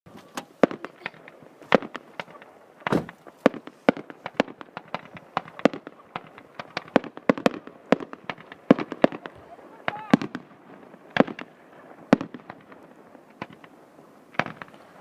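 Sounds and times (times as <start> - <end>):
fireworks bangs and cracks: 0.4 - 15.0.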